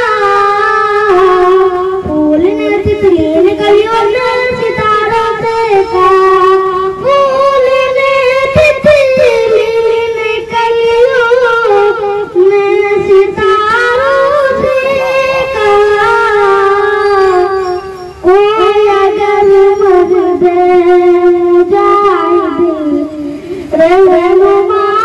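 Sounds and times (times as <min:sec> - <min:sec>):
boy singing into a microphone: 0:00.0 - 0:25.0.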